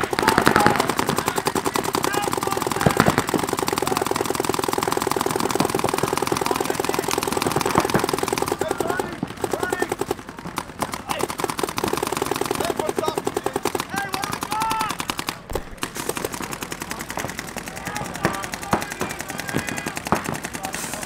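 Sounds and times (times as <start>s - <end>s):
paintball markers firing: 0.0s - 21.0s
players shouting: 0.0s - 21.0s.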